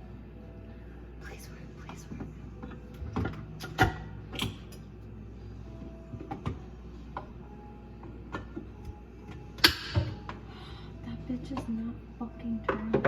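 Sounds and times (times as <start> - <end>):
garbage disposal humming: 0.0 - 13.0.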